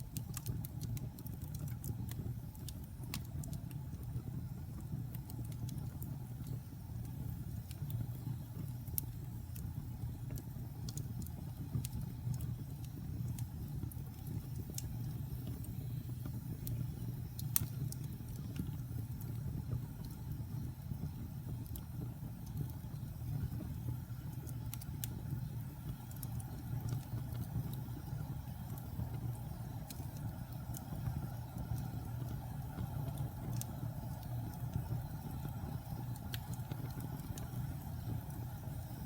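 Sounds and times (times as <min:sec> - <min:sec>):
fire crackles and pops: 0:00.0 - 0:39.0
fire rumbling: 0:00.0 - 0:39.0.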